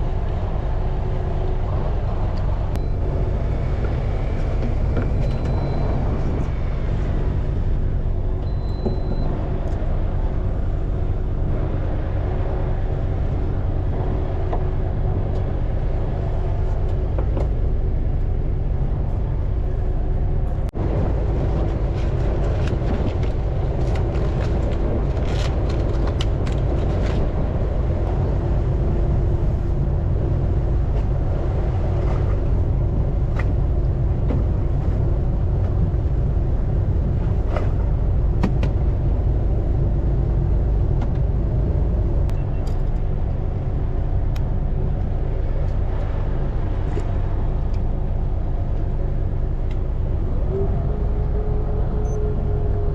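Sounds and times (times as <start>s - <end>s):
boat engine rumbling: 0.0s - 52.9s.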